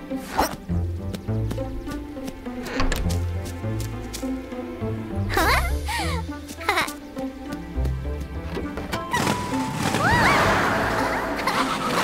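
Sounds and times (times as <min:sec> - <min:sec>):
cartoon background music: 0:00.0 - 0:12.0.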